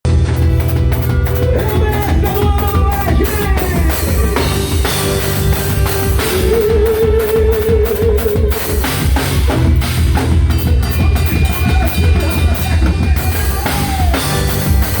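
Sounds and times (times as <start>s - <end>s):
rock music: 0.0s - 15.0s
drum kit beat: 0.1s - 15.0s
sliding melody line: 0.4s - 15.0s.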